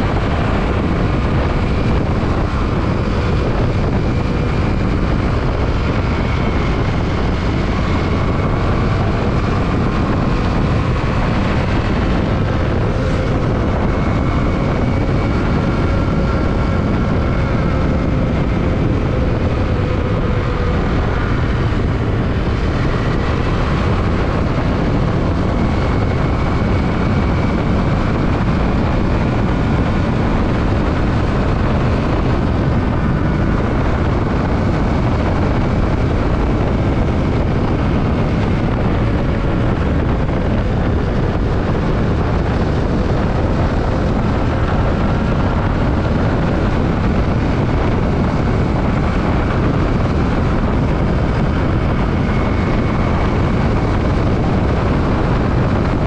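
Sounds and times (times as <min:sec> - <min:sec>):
motorcycle engine hum: 0:00.0 - 0:56.0
wind rushing over microphone: 0:00.0 - 0:56.0.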